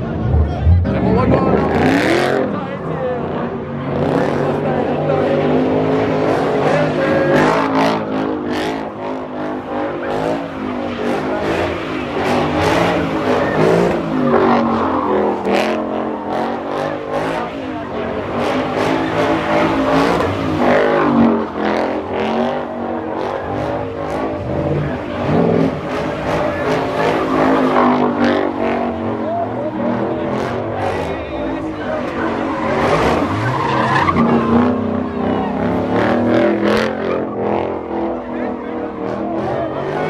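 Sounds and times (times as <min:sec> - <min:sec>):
car engine revving hard: 0:00.0 - 0:40.0.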